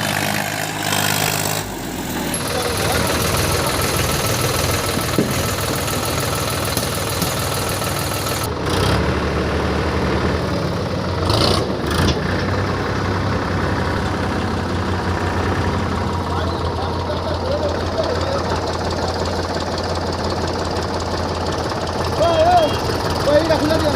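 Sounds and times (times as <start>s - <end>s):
heavy diesel engine running: 0.0s - 23.9s.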